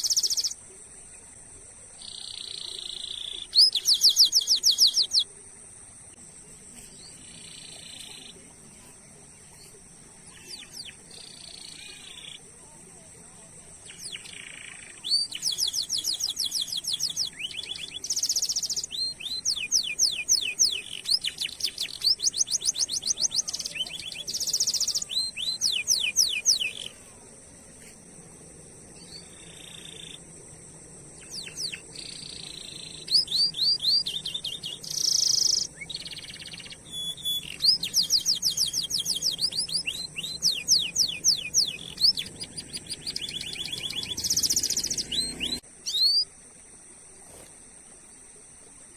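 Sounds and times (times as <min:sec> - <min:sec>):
canary singing trills: 0:00.0 - 0:00.6, 0:02.0 - 0:05.3, 0:07.0 - 0:12.4, 0:13.7 - 0:27.0, 0:29.0 - 0:30.3, 0:31.0 - 0:46.3.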